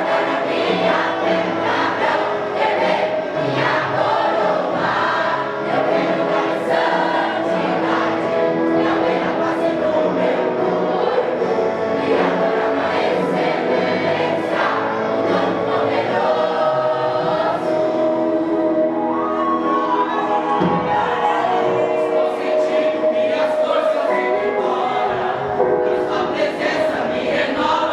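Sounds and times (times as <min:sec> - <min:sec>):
musical accompaniment: 0:00.0 - 0:27.9
vocal group singing in harmony: 0:00.0 - 0:27.9.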